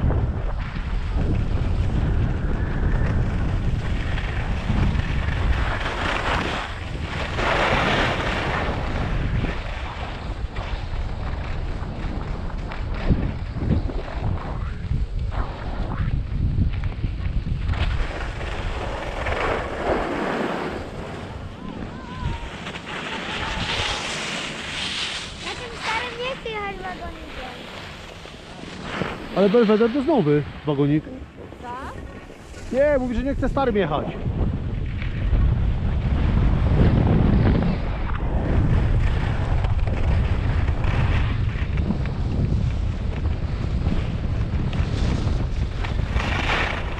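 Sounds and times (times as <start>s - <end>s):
wind buffeting microphone: 0.0s - 46.9s
skis scraping over packed snow: 0.1s - 46.9s.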